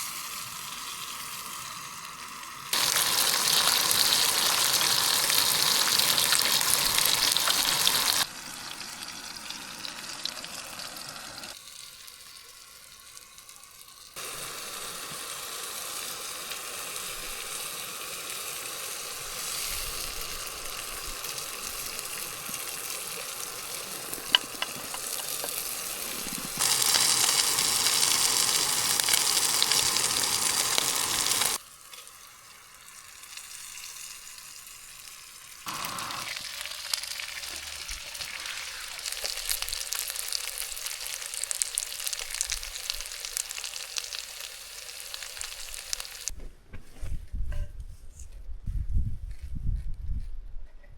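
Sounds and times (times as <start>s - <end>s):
fish sizzling in a skillet: 0.0s - 46.3s.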